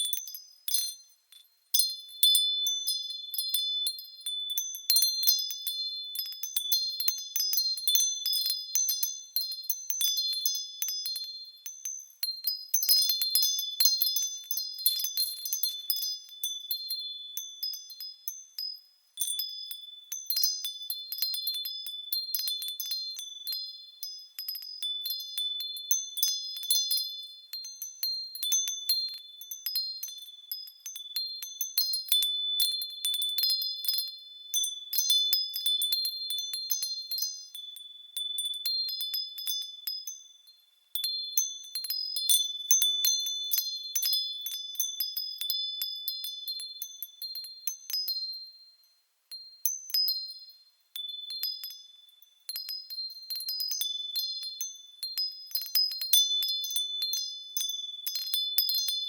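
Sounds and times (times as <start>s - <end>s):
wind chimes ringing: 0.0s - 59.0s.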